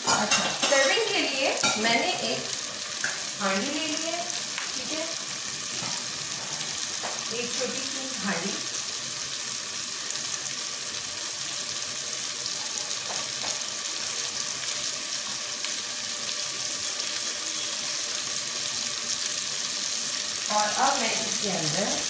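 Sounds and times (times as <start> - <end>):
butter sizzling in a pan: 0.0 - 22.0.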